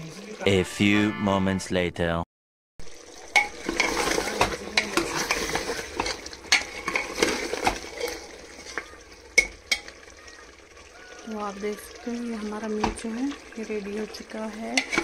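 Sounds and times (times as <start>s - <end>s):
steady sizzle: 0.0s - 0.6s, 2.8s - 15.0s.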